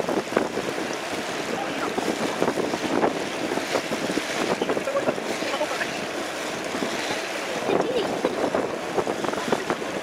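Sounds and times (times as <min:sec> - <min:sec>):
water splashing along boat hull: 0:00.0 - 0:10.0
wind buffeting microphone: 0:00.0 - 0:10.0.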